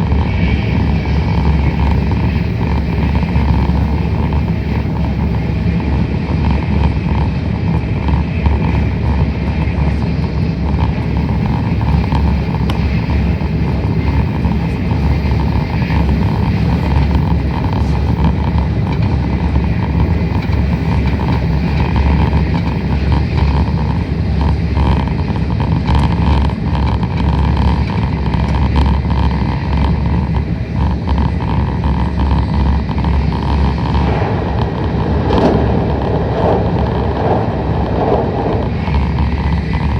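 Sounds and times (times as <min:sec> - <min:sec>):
train running inside passenger car: 0:00.0 - 0:39.9.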